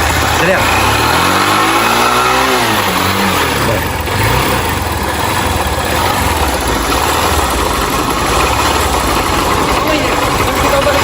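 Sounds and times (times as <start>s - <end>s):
small motorcycle engine revving: 0.0s - 11.0s.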